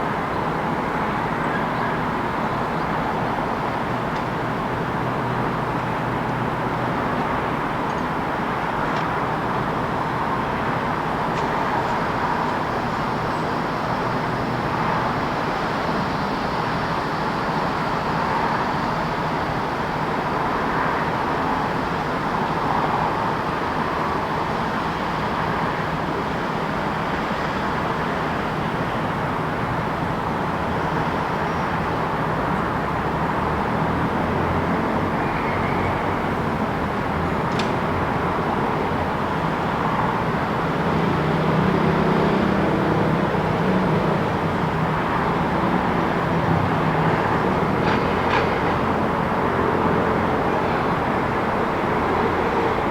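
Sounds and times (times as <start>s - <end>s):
city road traffic: 0.0s - 52.9s.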